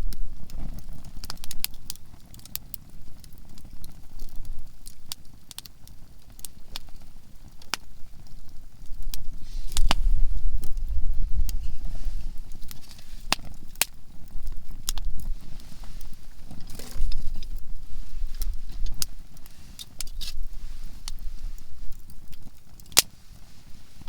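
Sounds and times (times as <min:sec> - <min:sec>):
firewood crackling and popping: 0:00.0 - 0:24.0.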